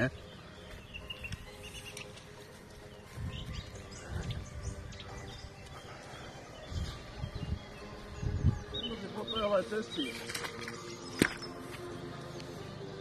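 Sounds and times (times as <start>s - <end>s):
footsteps on grass: 0.0s - 8.3s, 9.2s - 13.0s.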